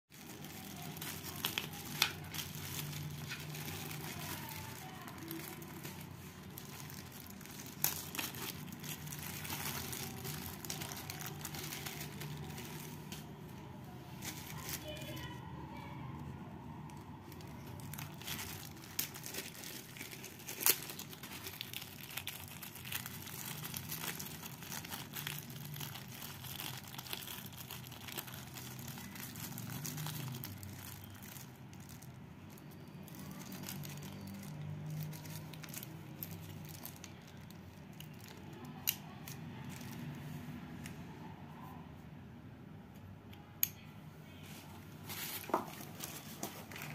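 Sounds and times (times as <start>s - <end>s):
plastic bag crinkling: 0.1s - 15.5s, 16.9s - 40.2s, 44.9s - 46.9s.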